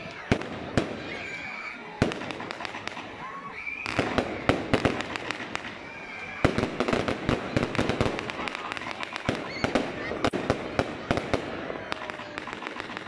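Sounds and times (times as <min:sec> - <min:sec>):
crackling firework stars: 0:00.0 - 0:13.0
fireworks banging: 0:00.0 - 0:13.0.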